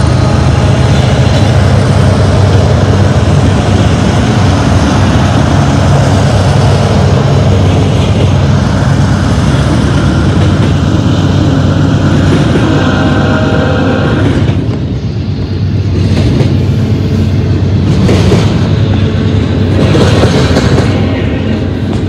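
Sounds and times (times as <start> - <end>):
diesel locomotive drone: 0.0 - 22.0
passing train noise: 0.0 - 22.0.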